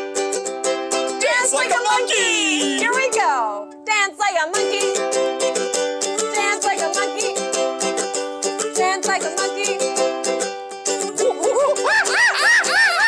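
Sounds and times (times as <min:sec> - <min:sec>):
ukulele strumming: 0:00.0 - 0:13.0.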